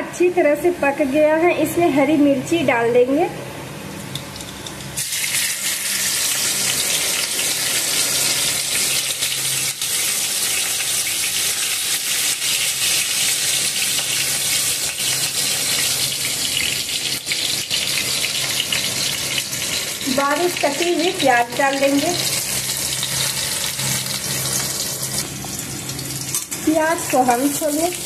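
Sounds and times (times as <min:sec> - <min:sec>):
chillies sizzling in hot oil: 0:04.4 - 0:28.0.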